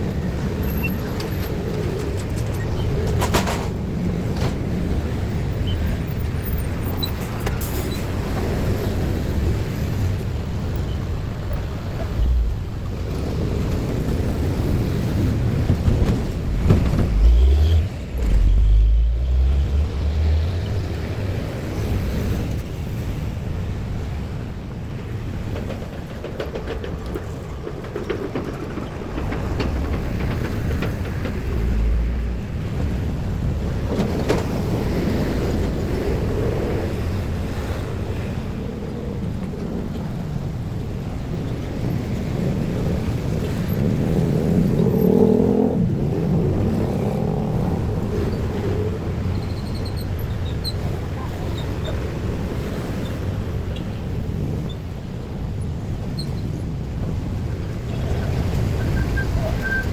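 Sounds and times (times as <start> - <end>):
road traffic passing: 0.0 - 25.6, 29.4 - 59.9
heavy vehicle rumble: 0.0 - 59.9.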